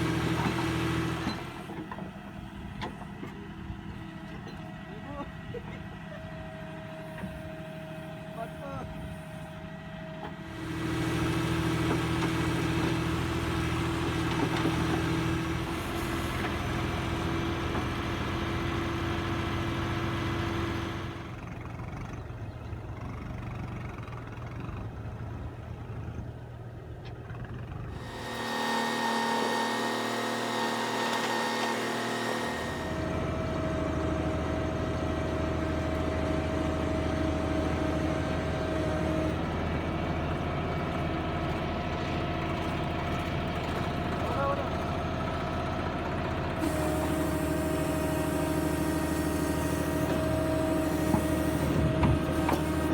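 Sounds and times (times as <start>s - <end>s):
diesel engines under load: 0.0s - 52.9s.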